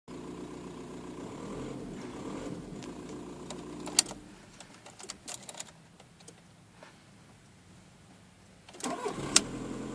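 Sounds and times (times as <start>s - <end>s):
steady hum: 0.2s - 8.5s.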